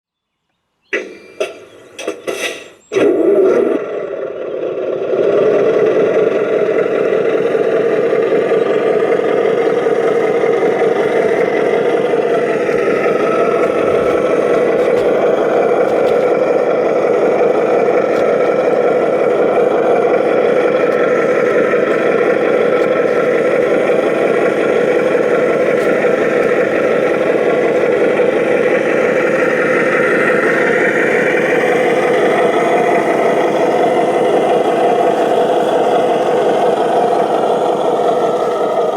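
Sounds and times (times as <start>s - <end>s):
model truck motor drone: 0.2s - 38.9s.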